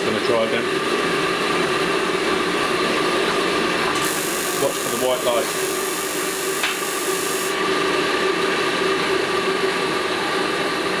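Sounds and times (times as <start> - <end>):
boiler whirring hum: 0.0 - 11.0.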